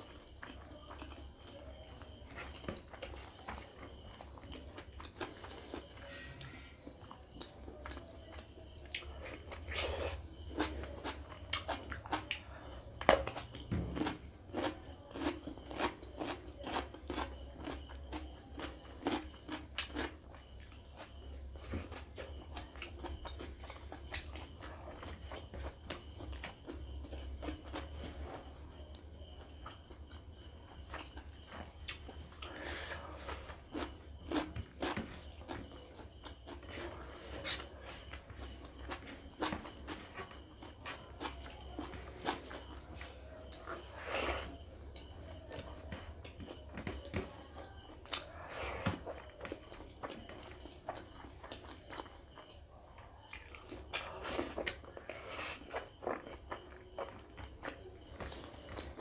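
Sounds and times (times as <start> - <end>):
close chewing and biting: 0.4 - 28.4, 29.2 - 59.0.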